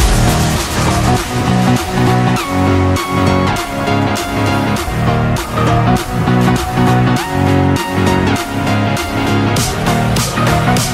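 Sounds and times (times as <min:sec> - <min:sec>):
electronic music with steady beat: 0:00.0 - 0:10.9.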